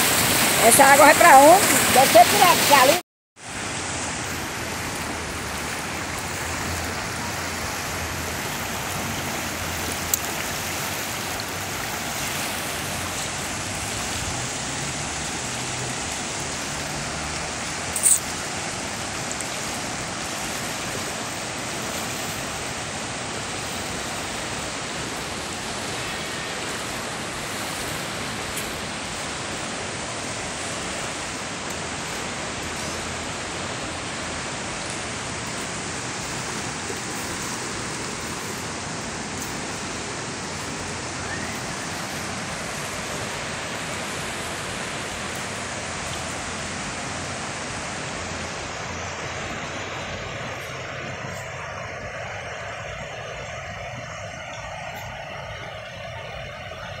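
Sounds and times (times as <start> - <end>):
river water rushing over rapids: 0.0 - 57.0.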